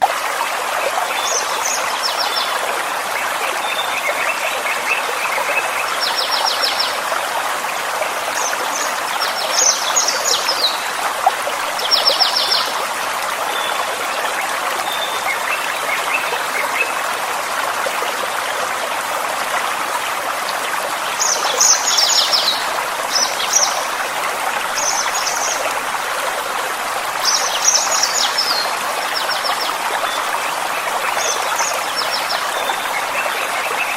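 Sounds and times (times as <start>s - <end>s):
forest stream running: 0.0s - 33.9s.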